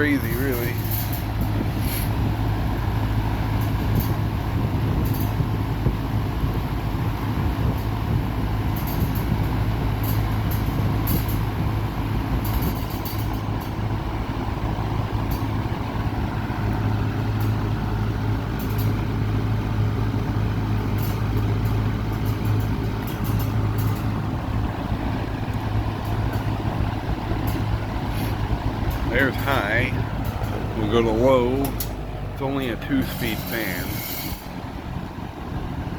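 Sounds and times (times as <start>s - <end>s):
box fan air rush: 0.0s - 35.9s
fan motor hum: 0.0s - 35.9s.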